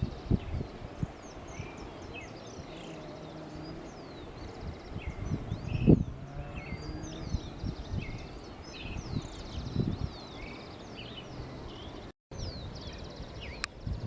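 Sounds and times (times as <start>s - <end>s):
small birds chirping: 0.0s - 14.0s
wind rumble: 0.0s - 14.0s.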